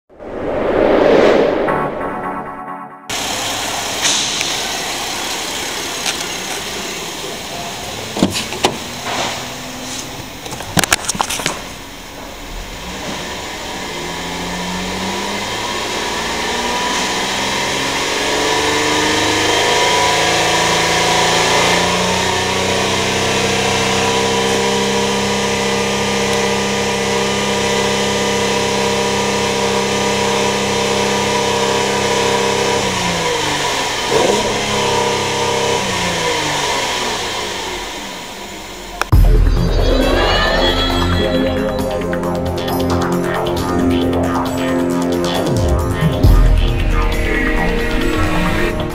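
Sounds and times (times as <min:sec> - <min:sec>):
car engine revving: 0:03.1 - 0:48.9.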